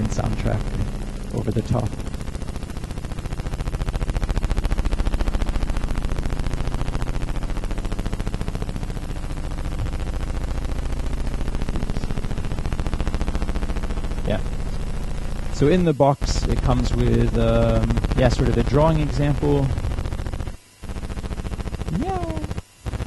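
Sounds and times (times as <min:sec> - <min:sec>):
buzzing stream of clicks: 0:00.0 - 0:23.0
low electronic drone: 0:00.0 - 0:23.0.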